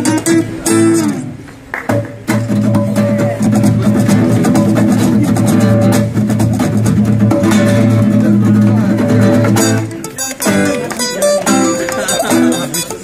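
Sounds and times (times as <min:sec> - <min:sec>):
nylon-string classical guitar: 0:00.0 - 0:13.0
steel-string acoustic guitar: 0:00.0 - 0:13.0.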